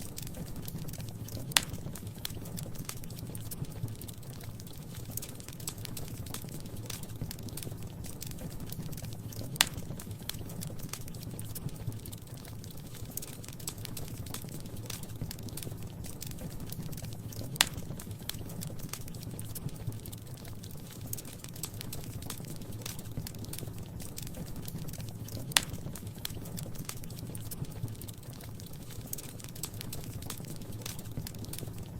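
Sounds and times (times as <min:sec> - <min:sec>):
fireplace fire crackling and popping: 0:00.0 - 0:31.9.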